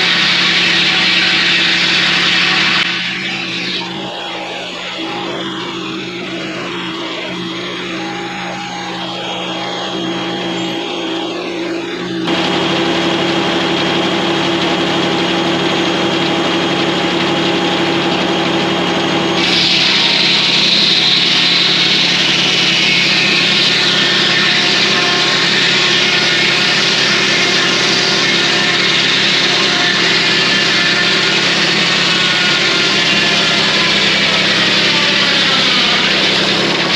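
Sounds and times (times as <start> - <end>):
diesel engine drone: 0.0 - 36.9
saw blade cutting log: 0.0 - 36.9.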